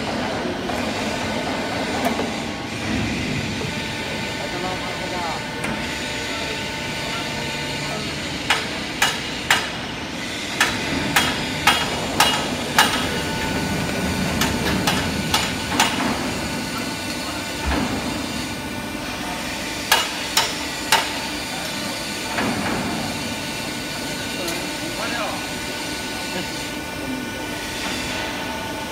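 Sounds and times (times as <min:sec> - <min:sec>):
pipe bending machine hum: 0:00.0 - 0:28.9.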